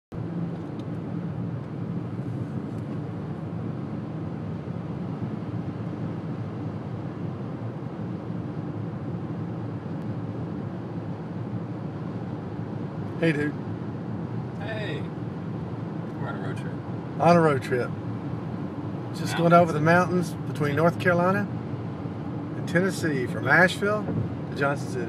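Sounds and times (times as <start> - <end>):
car road noise at highway speed: 0.1 - 25.0.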